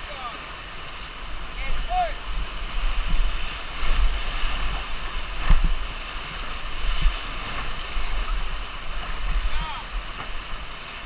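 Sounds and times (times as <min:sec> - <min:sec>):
whitewater rapids rushing: 0:00.0 - 0:11.0
wind buffeting microphone: 0:01.2 - 0:10.6.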